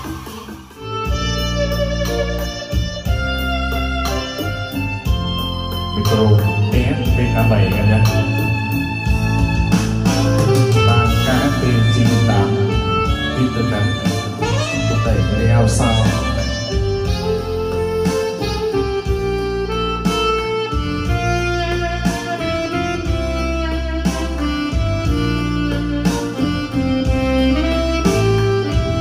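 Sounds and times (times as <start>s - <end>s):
guitar: 0.0s - 29.0s
melody with vibrato: 0.0s - 29.0s
steady bass: 0.0s - 29.0s.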